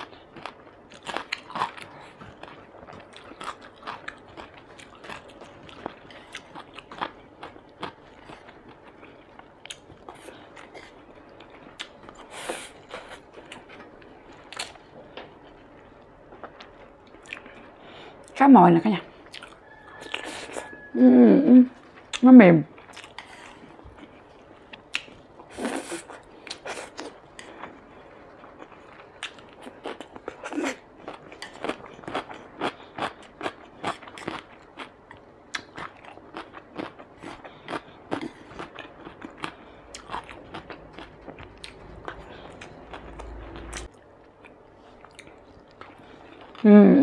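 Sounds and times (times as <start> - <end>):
person chewing: 0.0 - 18.4, 19.1 - 20.9, 21.8 - 46.6.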